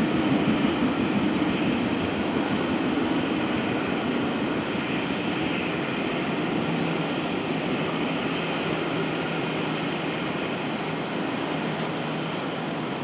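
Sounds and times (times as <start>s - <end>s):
steam train moving: 0.0s - 13.0s.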